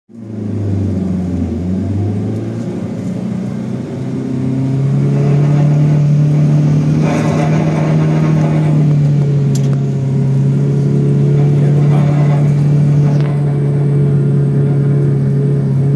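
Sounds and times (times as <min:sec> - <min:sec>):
vehicle engine driving: 0:00.1 - 0:15.9
motorcycle passing: 0:00.4 - 0:15.9.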